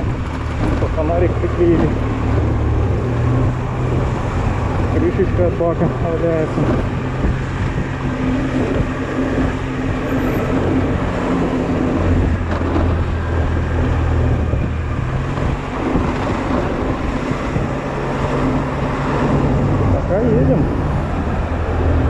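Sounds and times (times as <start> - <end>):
deep low hum: 0.0 - 22.0
road and wind noise: 0.0 - 22.0.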